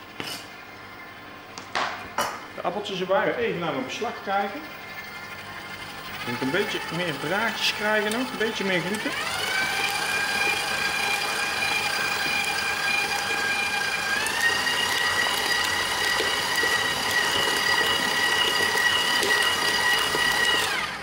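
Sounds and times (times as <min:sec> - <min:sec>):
stand mixer motor whining: 0:02.6 - 0:21.0.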